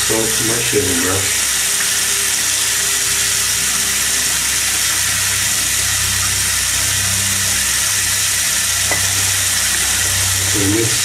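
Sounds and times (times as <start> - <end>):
low even hum: 0.0 - 11.0
steady hiss: 0.0 - 11.0.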